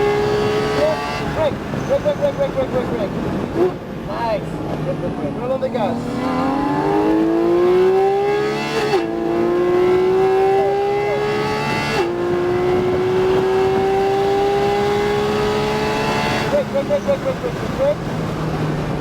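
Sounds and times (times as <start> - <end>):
sports car engine accelerating: 0.0 - 19.0.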